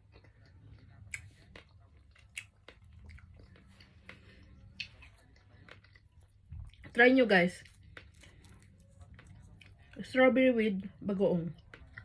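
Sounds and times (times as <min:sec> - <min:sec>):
chewing strawberries: 0:00.0 - 0:10.1, 0:11.5 - 0:12.0.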